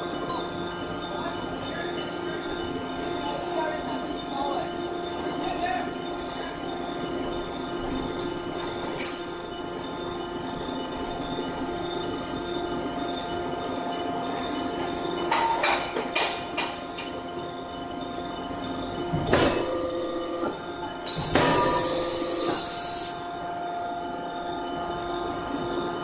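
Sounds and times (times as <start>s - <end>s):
machinery hum: 0.0s - 26.0s.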